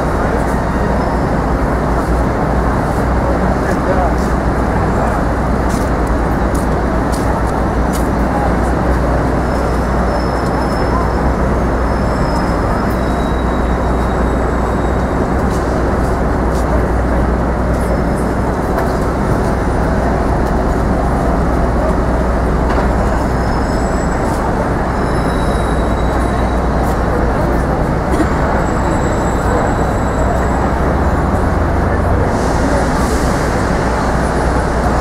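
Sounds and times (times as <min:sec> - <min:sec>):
traffic noise: 0:00.0 - 0:35.0.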